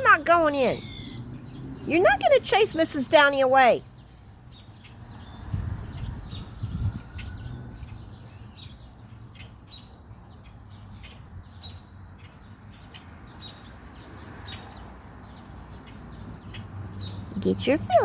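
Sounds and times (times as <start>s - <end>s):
wild birds chirping: 0.0s - 18.0s.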